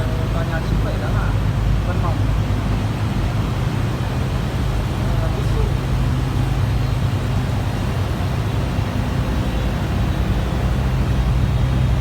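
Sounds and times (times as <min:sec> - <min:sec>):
air conditioning units humming: 0:00.0 - 0:12.0.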